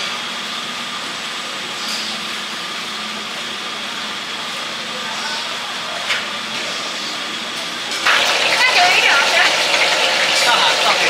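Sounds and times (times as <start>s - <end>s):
mechanical street hum: 0.0s - 11.0s
faint voices: 1.3s - 11.0s.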